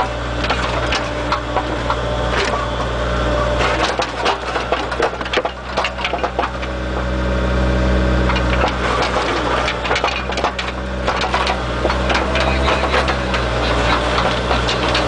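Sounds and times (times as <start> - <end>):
concrete slabs cracking: 0.0 - 2.8, 3.5 - 7.1, 8.3 - 15.0
diesel excavator engine running: 0.0 - 15.0.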